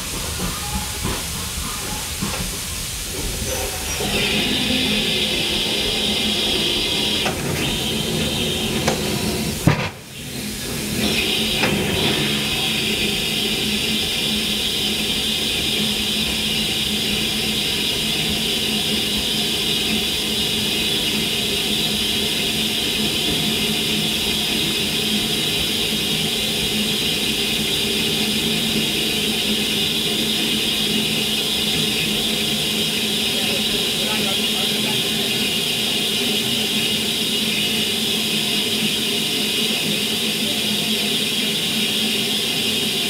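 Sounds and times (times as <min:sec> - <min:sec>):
locomotive low hum: 0:00.0 - 0:42.4.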